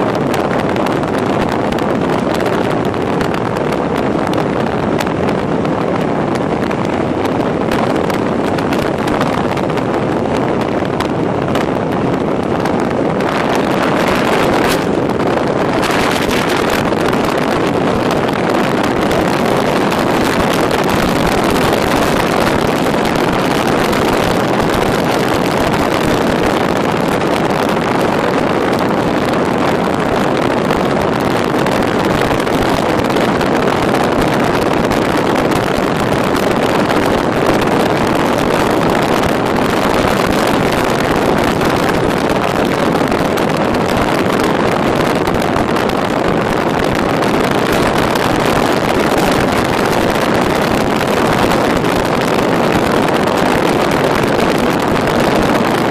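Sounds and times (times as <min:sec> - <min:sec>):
car road and wind noise: 0:00.0 - 0:55.9.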